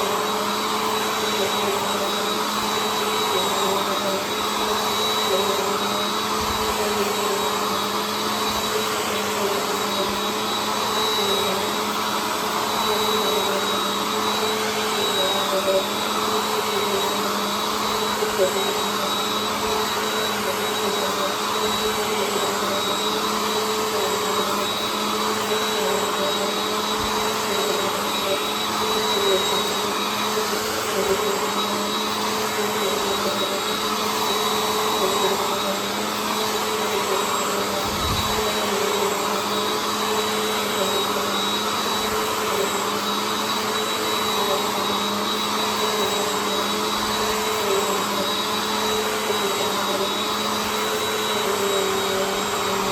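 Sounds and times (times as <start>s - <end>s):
vacuum cleaner motor whine: 0.0s - 52.9s.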